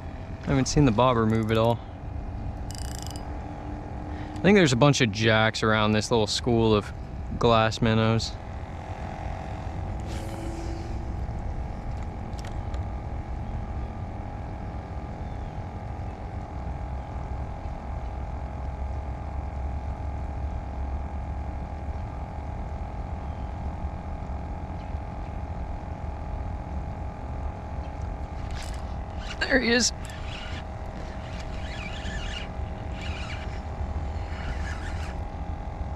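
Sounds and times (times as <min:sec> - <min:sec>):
faint steady whine: 0:00.0 - 0:35.9
low motor hum: 0:00.0 - 0:35.9.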